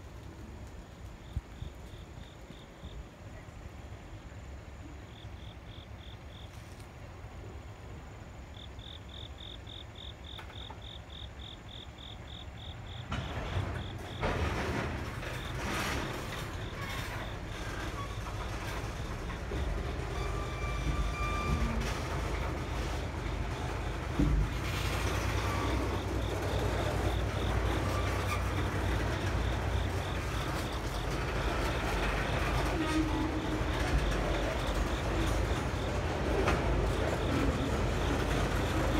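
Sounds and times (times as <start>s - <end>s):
freight train rumbling past: 0.0s - 38.9s
cricket chirping: 0.7s - 38.9s.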